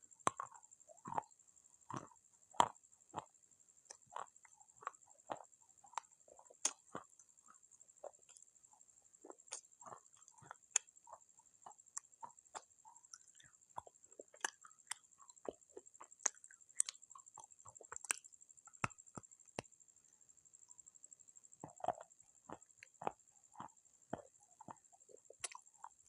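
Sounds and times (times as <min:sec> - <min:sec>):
clay pieces crunching being chewed: 0:00.1 - 0:03.3, 0:03.9 - 0:19.7, 0:21.6 - 0:26.0.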